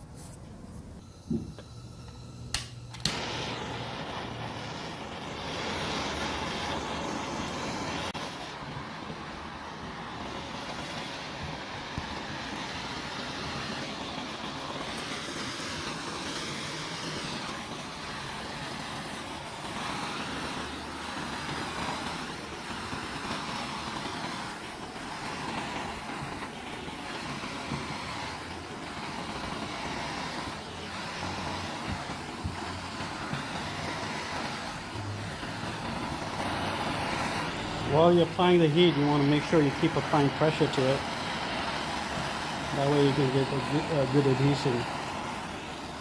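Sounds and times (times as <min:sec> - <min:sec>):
heat gun blowing hot air: 0:00.0 - 0:46.0.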